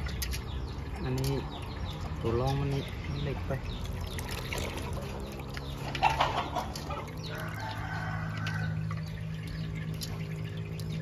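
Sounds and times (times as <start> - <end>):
water dripping into a bowl: 0.0 - 11.0.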